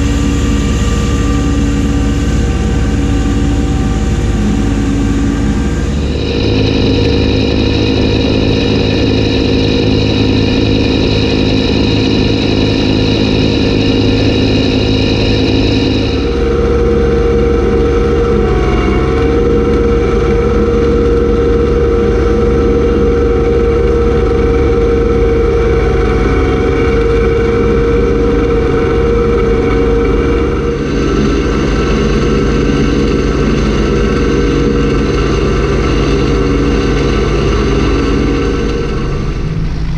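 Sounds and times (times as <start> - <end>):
tractor diesel engine with snowblower: 0.0 - 39.9.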